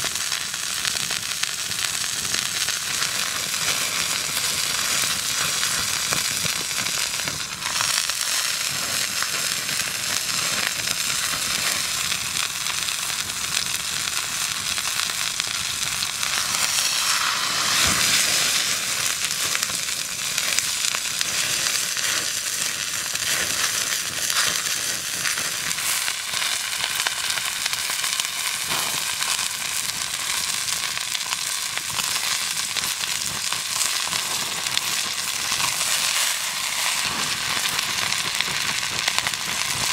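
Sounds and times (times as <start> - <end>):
beef sizzling in a skillet: 0.0 - 39.9.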